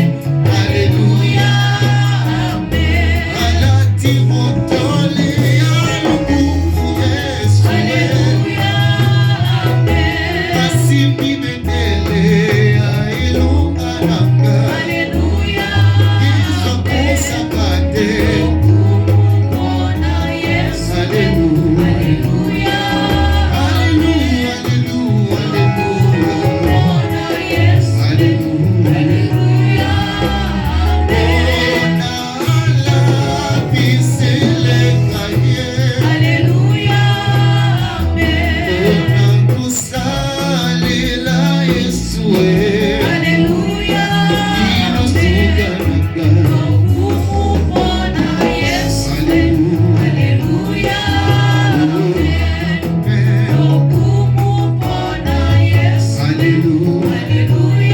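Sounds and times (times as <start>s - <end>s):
band with prominent bass: 0.0s - 57.9s
gospel voices singing: 0.0s - 57.9s.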